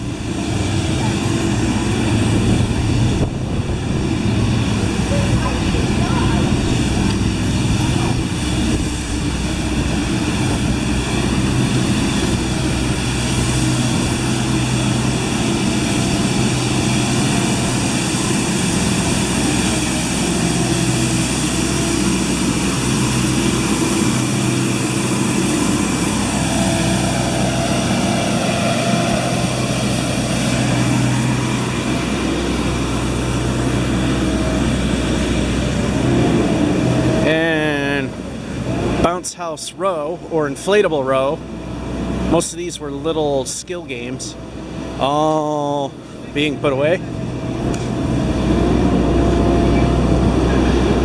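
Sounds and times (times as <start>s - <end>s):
street sweeper engine drone: 0.0s - 51.0s.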